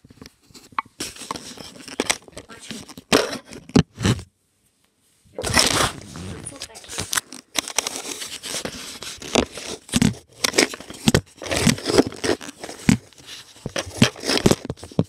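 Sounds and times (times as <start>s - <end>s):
treats crinkling and crunching: 0.0s - 3.9s, 5.4s - 15.0s.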